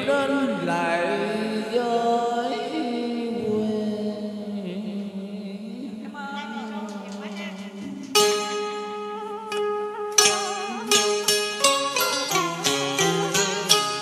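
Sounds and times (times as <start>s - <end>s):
man singing into a microphone: 0.0s - 8.1s, 9.1s - 14.0s.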